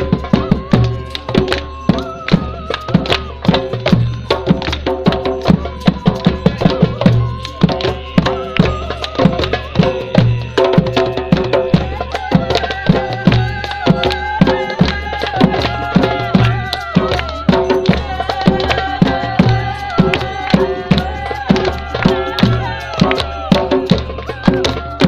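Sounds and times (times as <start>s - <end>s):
drum beating steady rhythm: 0.0s - 25.0s
wavering melody: 0.0s - 25.0s.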